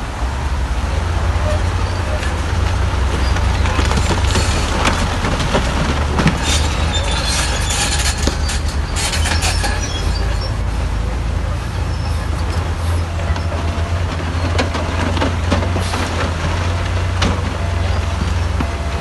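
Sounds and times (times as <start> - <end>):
bulldozer diesel engine running: 0.0 - 19.0
crawler tracks clanking and squealing: 1.2 - 19.0.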